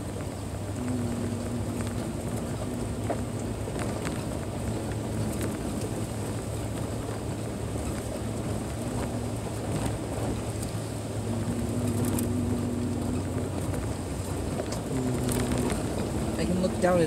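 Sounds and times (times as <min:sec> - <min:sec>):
faint hum: 0:00.0 - 0:16.8
car engine and tyre rumble: 0:00.0 - 0:17.0.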